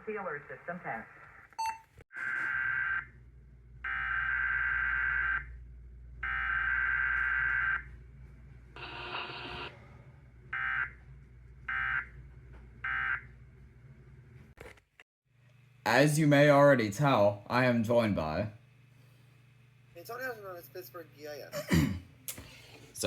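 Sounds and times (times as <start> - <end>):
steady low hum: 3.0 - 14.5, 15.4 - 23.0.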